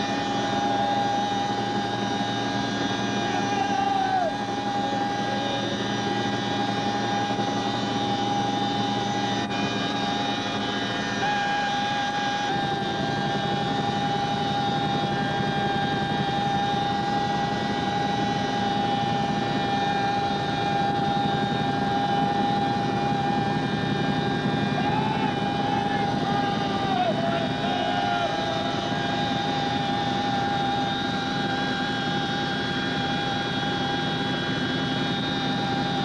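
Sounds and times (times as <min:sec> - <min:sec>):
constant high whine: 0:00.0 - 0:36.0
helicopter cabin engine drone: 0:00.0 - 0:36.0.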